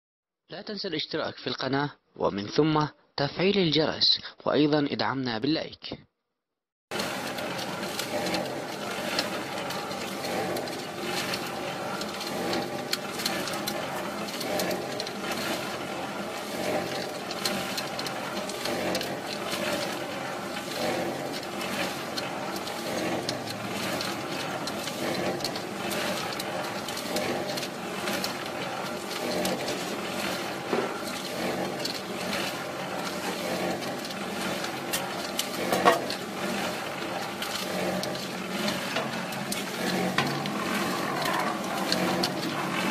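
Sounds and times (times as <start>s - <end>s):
cement mixer motor humming: 6.9s - 42.9s
gravel tumbling in mixer drum: 6.9s - 42.9s.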